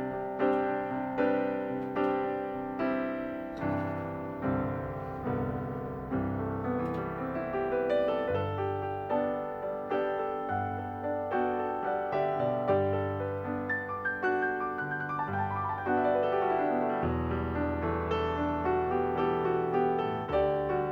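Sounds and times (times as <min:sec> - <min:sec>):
slow gentle piano music: 0:00.0 - 0:20.9.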